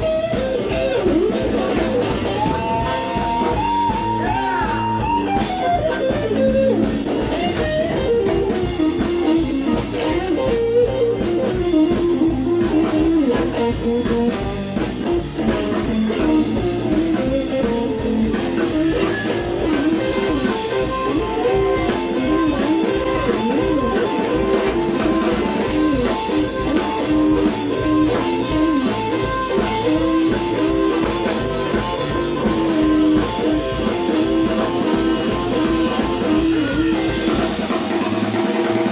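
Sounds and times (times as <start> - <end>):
blues-rock band playing: 0.0 - 38.9
drum kit: 0.0 - 38.9
guitar melody with bending notes: 0.0 - 38.9.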